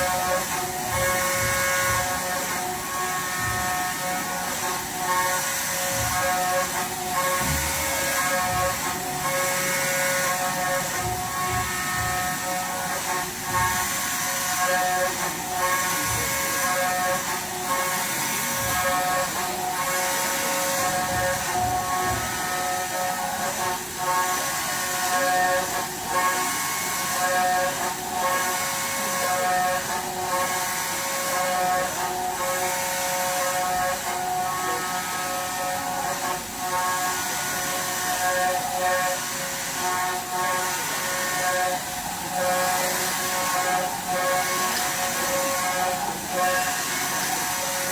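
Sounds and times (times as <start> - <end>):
cnc machine whine: 0.0 - 47.9.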